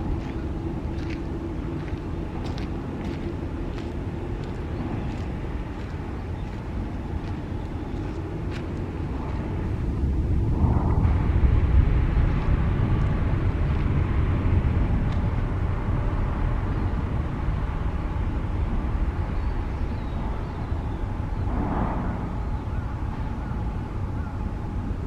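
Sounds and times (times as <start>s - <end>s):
jet airliner engines rumbling: 0.0s - 25.0s.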